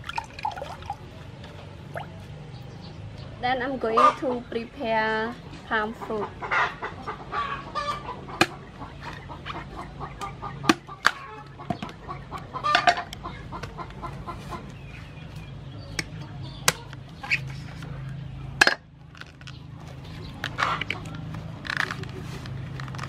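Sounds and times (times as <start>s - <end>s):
chickens clucking: 0.6s - 18.6s, 19.5s - 23.0s.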